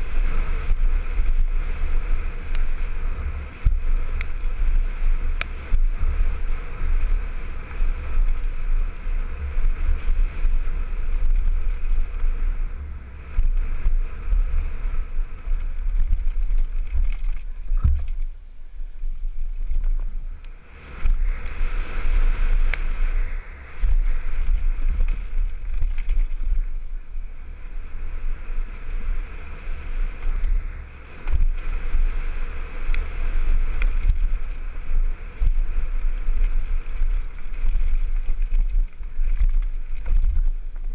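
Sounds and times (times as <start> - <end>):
mountain bike rattling on dirt: 0.0 - 40.9
wind buffeting microphone: 0.0 - 40.9.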